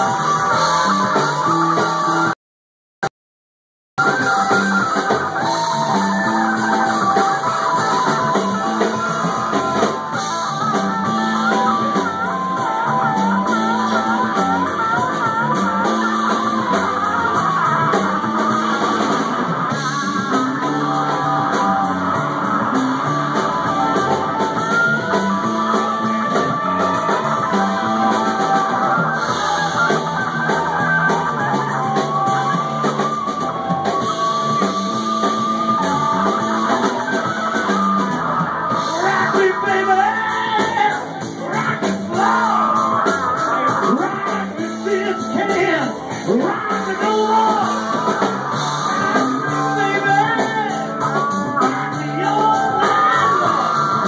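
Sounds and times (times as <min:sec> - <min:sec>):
bending electric guitar lead: 0:00.0 - 0:02.4, 0:04.0 - 0:54.0
blues band playing: 0:00.0 - 0:02.4, 0:04.0 - 0:54.0.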